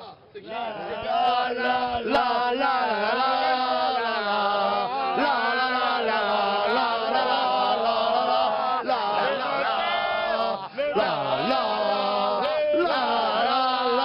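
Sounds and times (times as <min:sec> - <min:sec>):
football fans chanting a song: 0:00.0 - 0:14.0.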